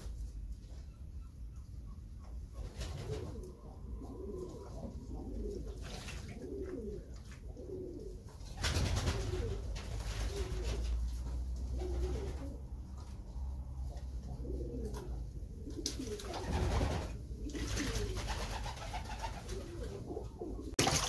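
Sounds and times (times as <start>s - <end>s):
pigeons cooing: 0.8s - 20.8s.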